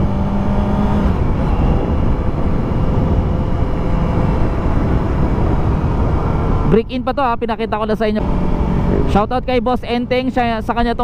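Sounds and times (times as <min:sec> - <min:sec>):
motorcycle engine running: 0:00.0 - 0:10.7
wind and road noise: 0:00.0 - 0:11.0.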